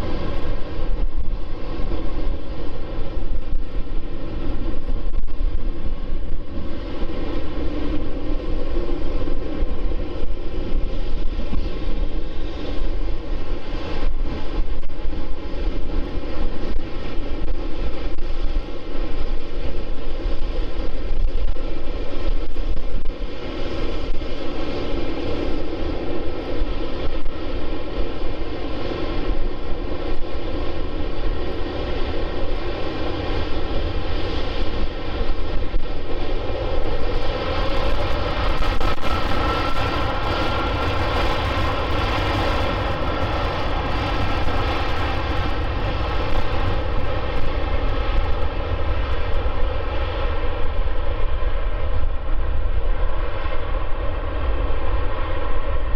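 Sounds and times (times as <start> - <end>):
jet engines rumbling and whining: 0.0 - 55.9.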